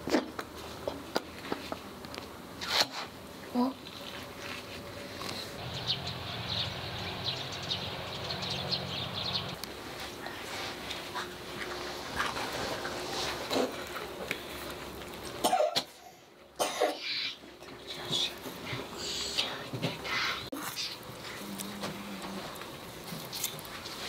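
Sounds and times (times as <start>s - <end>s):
steady low hum: 1.8s - 24.0s.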